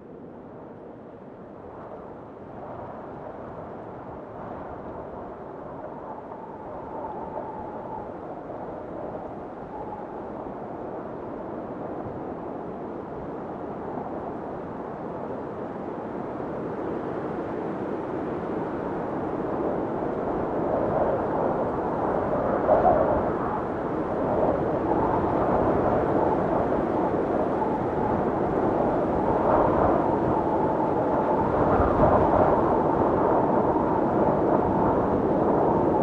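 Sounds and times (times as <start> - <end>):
blizzard wind rushing: 0.0 - 36.0.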